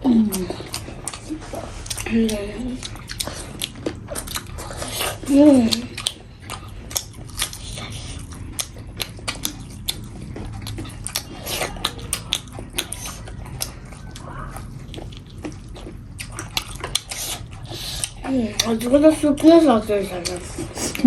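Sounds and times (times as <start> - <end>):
people chewing food: 0.0 - 21.0.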